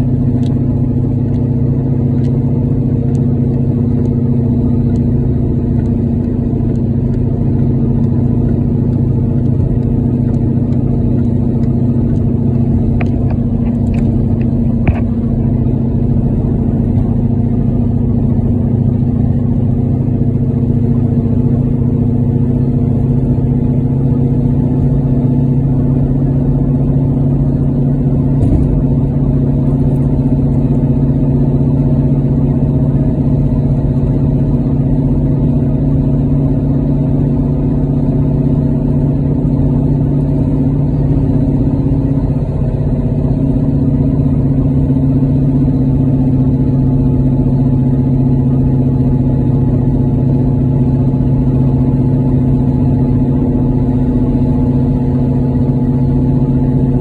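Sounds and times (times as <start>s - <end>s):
car engine drone: 0.0s - 57.0s
road noise on wet road: 0.0s - 57.0s.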